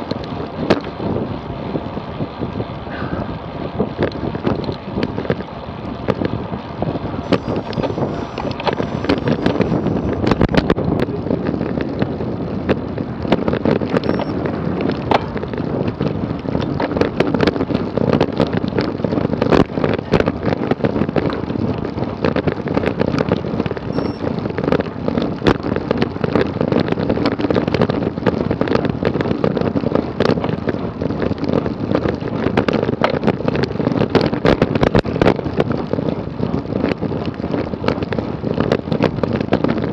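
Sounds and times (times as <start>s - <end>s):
bike rattles and clicks: 0.0s - 39.9s
tyre and road noise: 0.0s - 39.9s
wind buffeting microphone: 0.0s - 39.9s.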